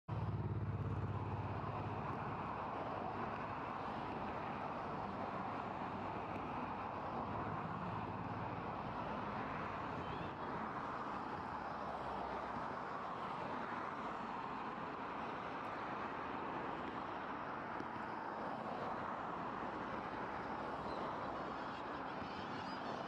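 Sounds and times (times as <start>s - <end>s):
city traffic hum: 0.1s - 23.0s.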